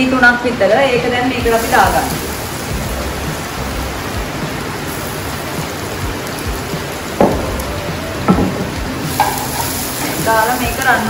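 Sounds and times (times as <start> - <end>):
food sizzling in oil: 1.2 - 11.0.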